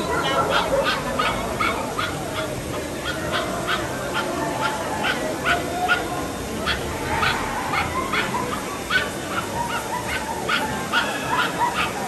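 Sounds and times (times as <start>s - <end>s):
steady background noise: 0.0s - 12.0s
dog yapping: 0.1s - 6.1s, 6.7s - 12.0s.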